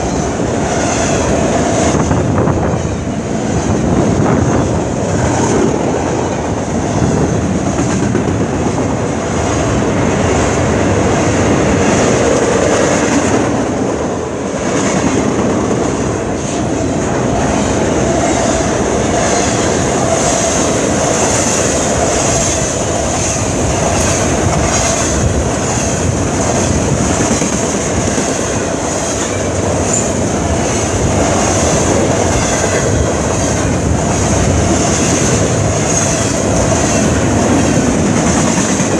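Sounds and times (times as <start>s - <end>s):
clickety-clack over rail joints: 0.0s - 38.9s
train wheels rumbling on rails: 0.0s - 38.9s.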